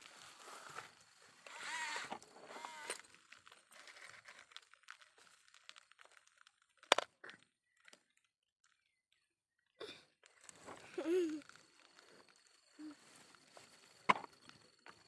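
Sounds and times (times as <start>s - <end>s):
gravel and plastic crunching: 0.0s - 15.0s.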